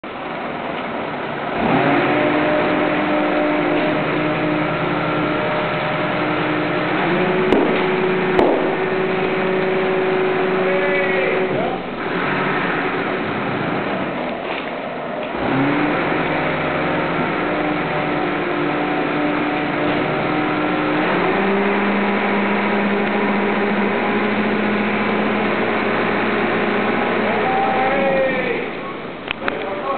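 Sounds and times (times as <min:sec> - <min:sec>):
truck engine revving: 0:00.2 - 0:29.9.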